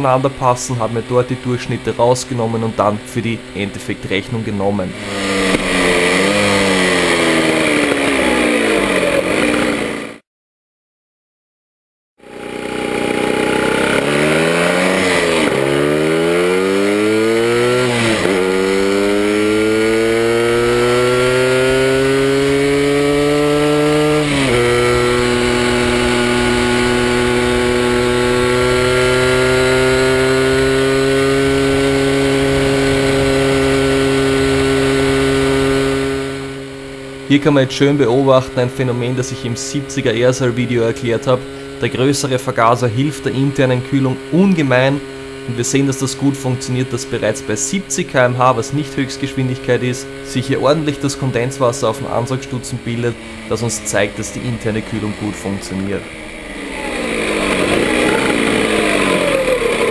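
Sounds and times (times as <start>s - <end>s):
moped engine accelerating: 0.0s - 10.2s, 12.2s - 59.9s.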